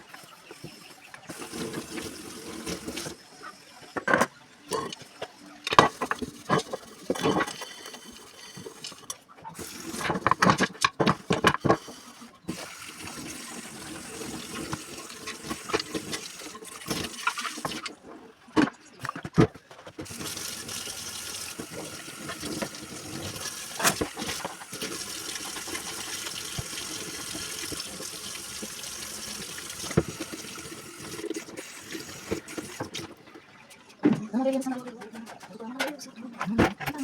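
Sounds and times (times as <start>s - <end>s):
tap water running into sink: 0.0s - 18.0s, 20.0s - 33.2s.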